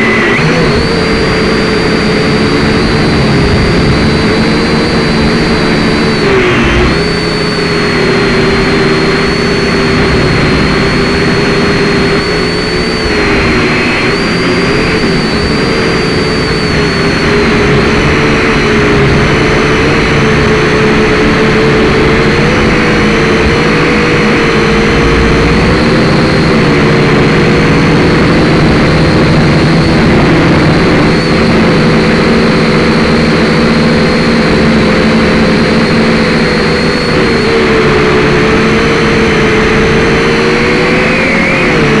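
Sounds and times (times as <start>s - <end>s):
drone motors and propellers whining: 0.0s - 42.0s.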